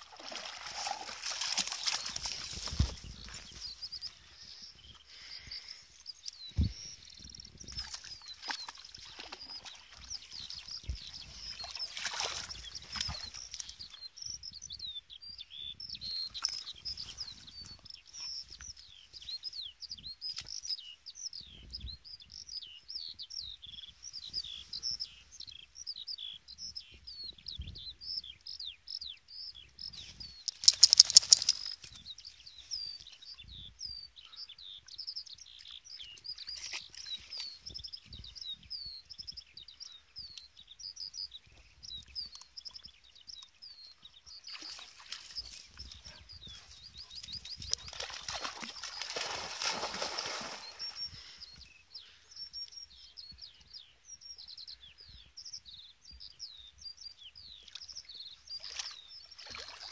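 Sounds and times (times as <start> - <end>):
songbird chirping and trilling: 0.4 - 59.9.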